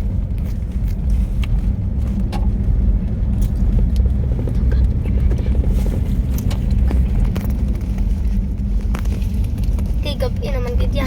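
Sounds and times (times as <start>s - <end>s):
truck rumble from inside cab: 0.0s - 11.0s.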